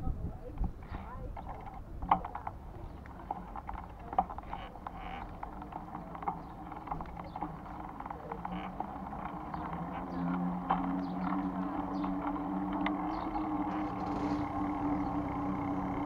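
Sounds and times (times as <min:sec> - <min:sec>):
motor traffic hum: 0:00.0 - 0:16.0.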